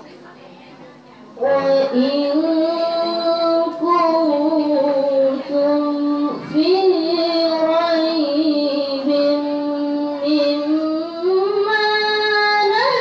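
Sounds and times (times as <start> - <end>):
girl reciting melodic chant: 1.3 - 13.0.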